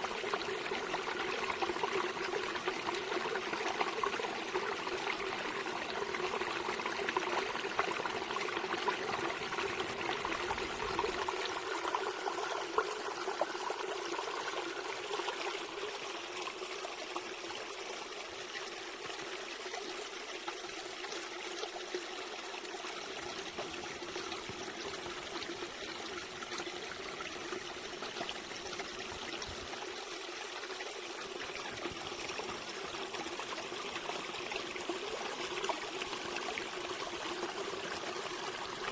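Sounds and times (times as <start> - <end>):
water trickling and babbling: 0.0 - 38.9.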